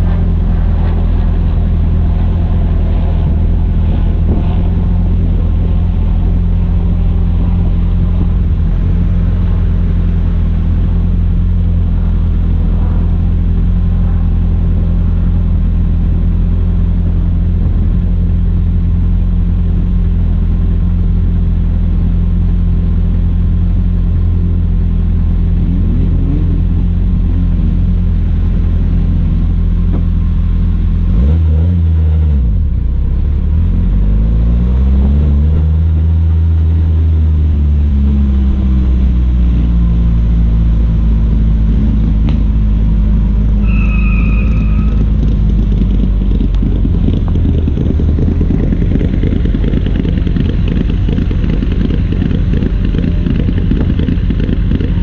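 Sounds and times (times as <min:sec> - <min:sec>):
rally car engine idling: 0:00.0 - 0:34.2, 0:35.3 - 0:55.0.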